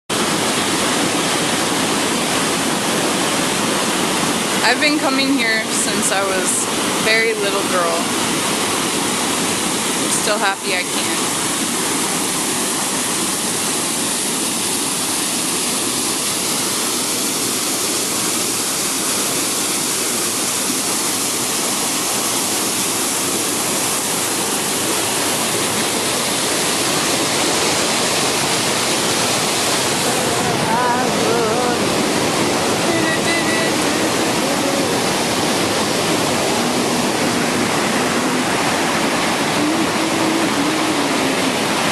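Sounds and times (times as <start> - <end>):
waterfall rushing roar: 0.1 - 41.9.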